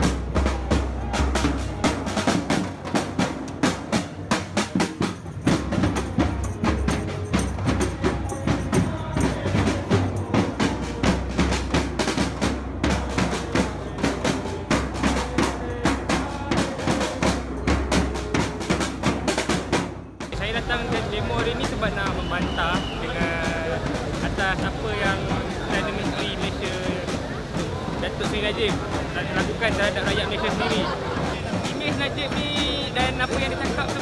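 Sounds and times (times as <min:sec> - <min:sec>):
bass drum: 0:00.0 - 0:34.0
marching snare drums: 0:00.0 - 0:34.0.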